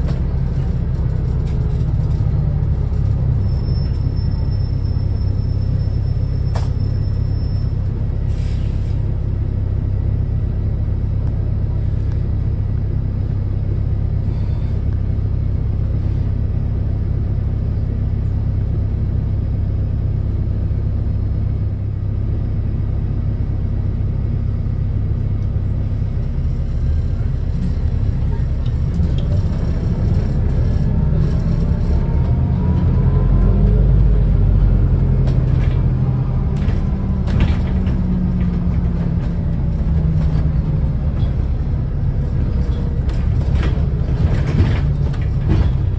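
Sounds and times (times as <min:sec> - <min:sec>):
bus diesel engine rumble: 0:00.0 - 0:45.9.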